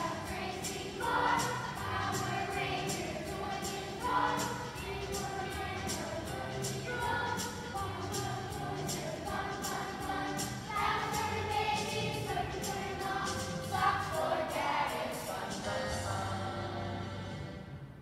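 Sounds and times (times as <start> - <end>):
children's choir singing: 0.0 - 17.6.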